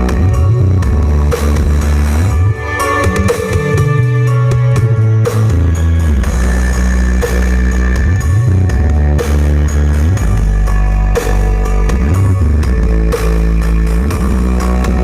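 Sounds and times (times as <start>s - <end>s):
loud rock music: 0.0s - 15.0s
sliding bass line: 0.0s - 15.0s.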